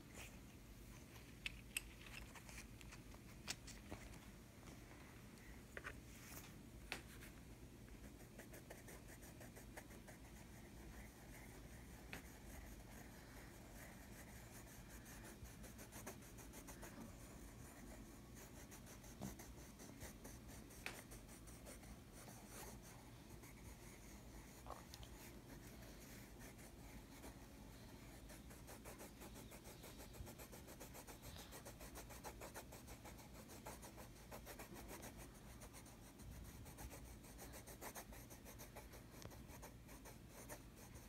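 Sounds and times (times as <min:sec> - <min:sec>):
pencil scratching on paper: 0:08.0 - 0:41.0.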